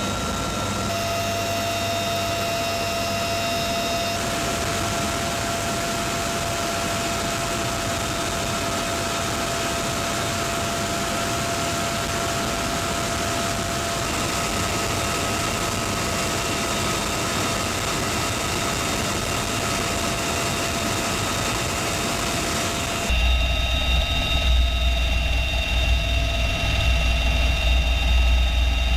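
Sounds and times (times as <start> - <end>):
helicopter rotor and air rush: 0.0 - 28.9
high turbine whine: 0.0 - 28.9.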